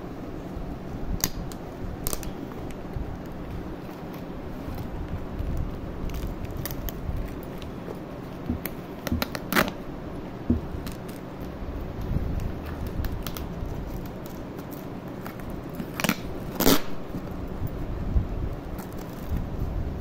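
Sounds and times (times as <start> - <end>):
plastic wrapping crackling: 1.0 - 20.0.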